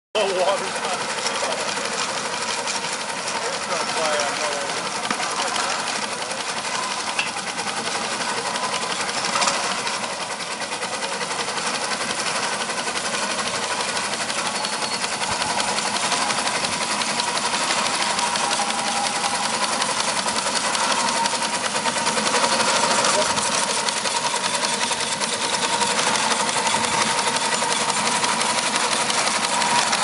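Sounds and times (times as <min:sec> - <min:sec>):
steam engine exhaust beat: 0:00.2 - 0:30.0
steam engine governor: 0:00.2 - 0:30.0.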